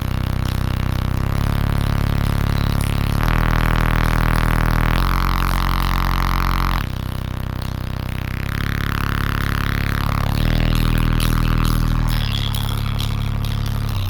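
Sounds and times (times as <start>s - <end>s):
bass-heavy music through subwoofers: 0.0s - 14.0s.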